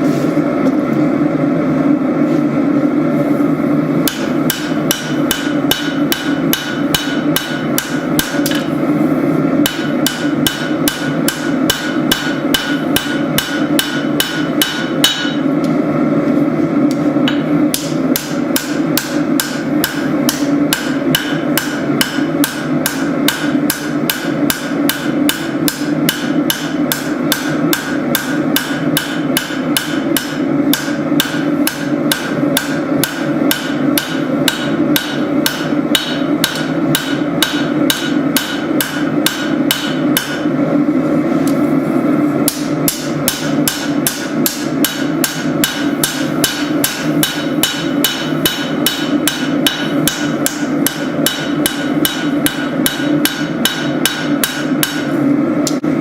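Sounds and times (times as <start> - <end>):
hammer striking steel on anvil: 4.0 - 8.8, 9.6 - 15.5, 17.2 - 40.5, 42.4 - 55.1.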